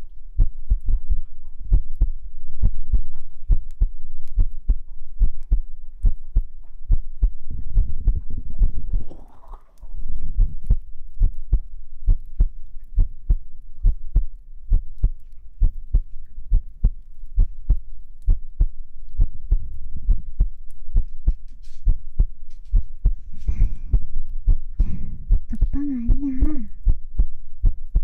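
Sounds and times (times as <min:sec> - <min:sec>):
heartbeat thuds: 0:00.0 - 0:09.3, 0:10.1 - 0:28.0.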